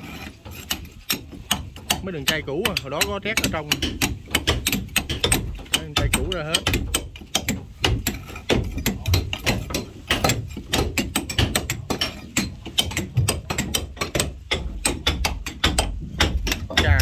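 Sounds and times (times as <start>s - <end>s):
hand scrapers scraping wood: 0.0s - 17.0s.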